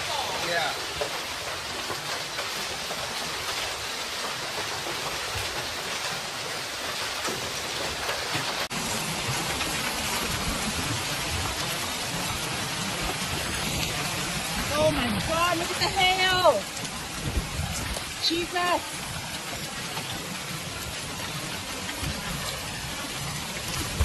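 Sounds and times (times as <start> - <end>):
hailstones clattering: 0.0 - 24.0
low thuds of large hailstones: 0.0 - 24.0.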